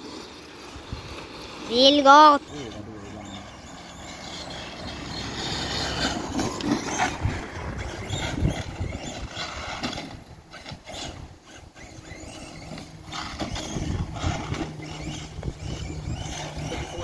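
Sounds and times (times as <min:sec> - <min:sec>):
electric rc buggy motor: 0:00.0 - 0:17.0.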